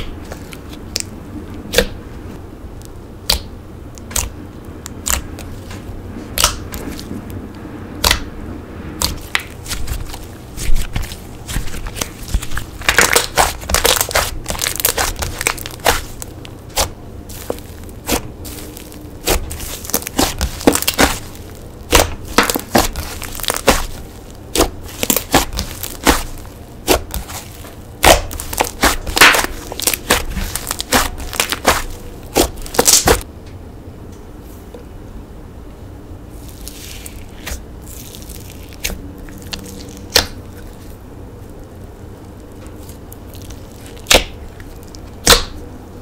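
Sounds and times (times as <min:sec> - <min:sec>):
slime crackling and popping: 0:03.2 - 0:07.1, 0:08.0 - 0:08.3, 0:09.0 - 0:33.2, 0:36.3 - 0:40.9, 0:41.5 - 0:45.6.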